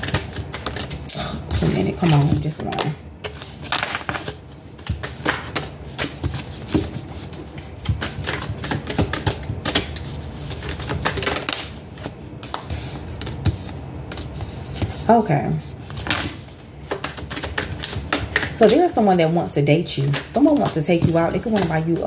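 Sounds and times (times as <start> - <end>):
cards being shuffled: 0.0 - 15.0, 15.8 - 19.1, 20.0 - 22.0.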